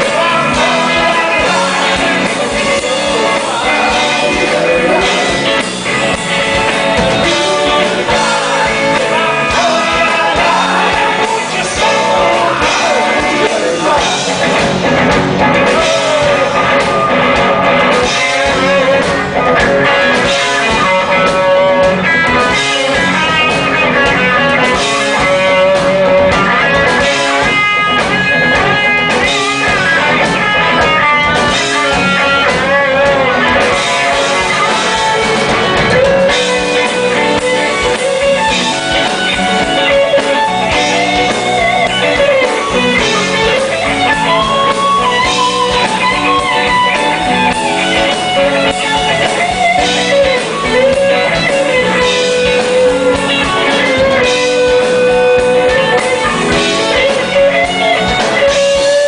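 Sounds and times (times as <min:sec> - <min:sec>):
electric guitar lead with bending notes: 0:00.0 - 0:59.0
rock band playing live: 0:00.0 - 0:59.0.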